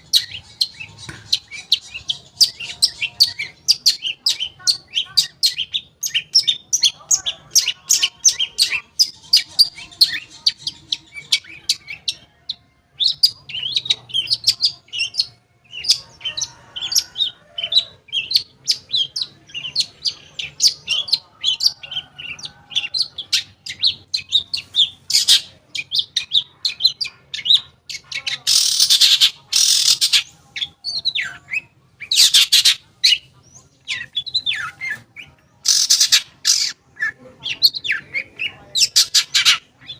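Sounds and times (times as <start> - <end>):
bird chattering song: 0.0 - 39.9
harsh rasping bird calls: 0.0 - 39.9.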